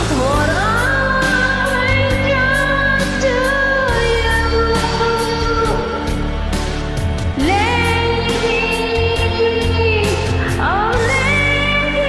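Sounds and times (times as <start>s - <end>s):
rock ballad backing track: 0.0s - 12.0s.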